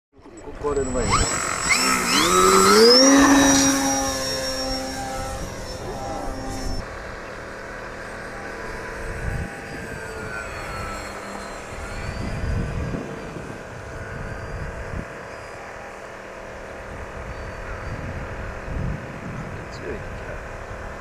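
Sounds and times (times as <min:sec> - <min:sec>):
model airplane motor whine: 0:00.2 - 0:21.0.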